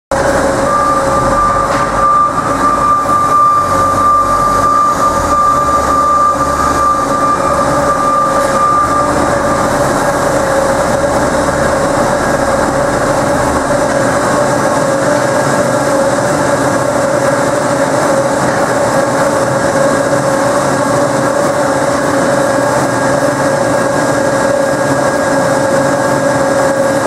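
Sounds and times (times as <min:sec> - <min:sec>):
higher mechanical whine: 0:00.1 - 0:27.0
machine running with whine: 0:00.1 - 0:27.0.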